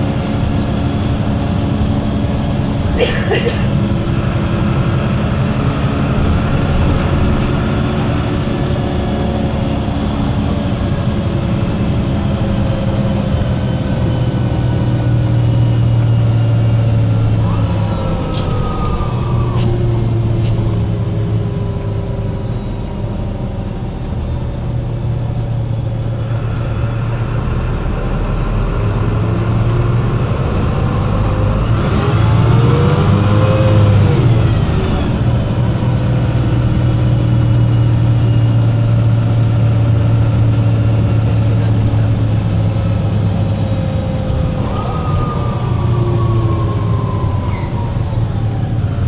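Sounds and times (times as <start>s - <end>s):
diesel bus engine idling: 0.0s - 49.0s.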